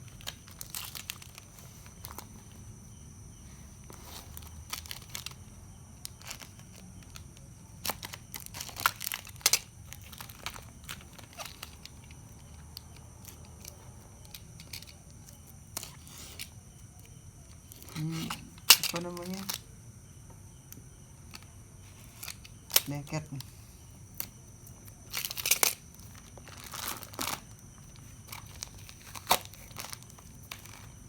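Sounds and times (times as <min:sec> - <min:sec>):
plastic packaging crinkling: 0:00.0 - 0:02.7, 0:03.7 - 0:19.6, 0:21.3 - 0:31.0.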